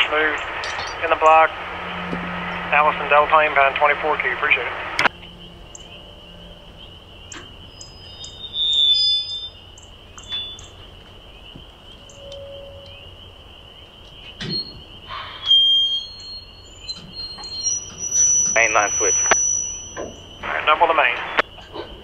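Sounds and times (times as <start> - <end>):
birds chirping and whistling: 0.0 - 22.0
high-pitched bird chorus: 0.0 - 22.0.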